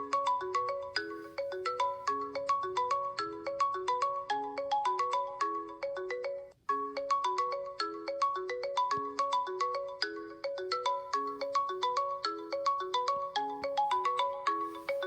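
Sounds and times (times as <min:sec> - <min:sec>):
bright looping ringtone melody: 0:00.0 - 0:15.0.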